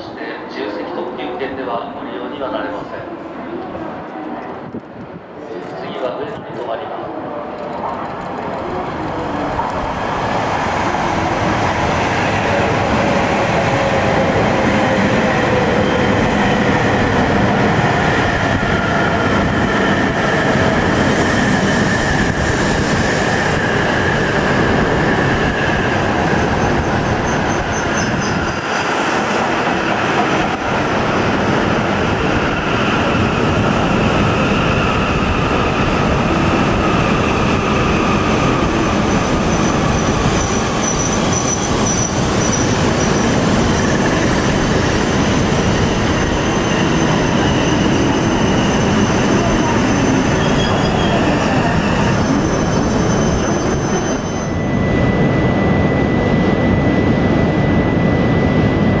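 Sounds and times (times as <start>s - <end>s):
train rush of wheels and air: 2.5s - 59.0s.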